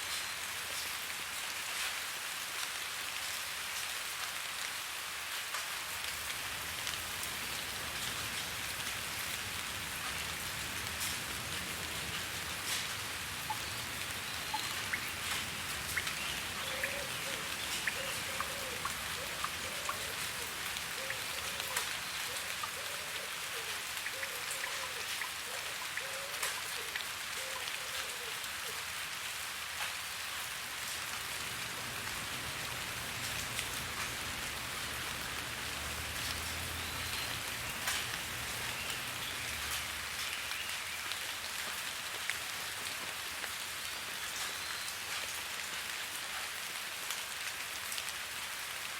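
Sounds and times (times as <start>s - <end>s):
raindrops ticking on a surface: 0.0s - 48.9s
steady rain falling: 0.0s - 48.9s.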